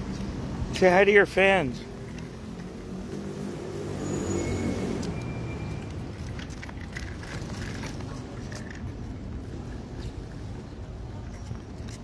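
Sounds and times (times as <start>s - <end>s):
stroller wheels rattling on pavement: 0.2s - 12.0s.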